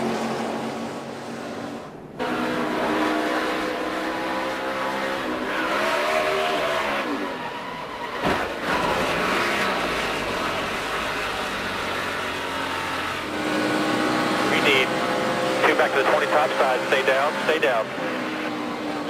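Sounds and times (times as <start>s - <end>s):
race car engines passing: 0.0s - 19.0s.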